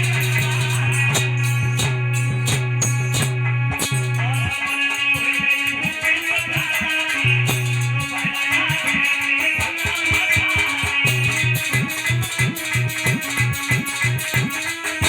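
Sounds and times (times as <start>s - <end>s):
bass: 0.0s - 8.8s, 10.2s - 15.0s
drum beats: 0.0s - 15.0s
plucked string melody: 0.0s - 15.0s.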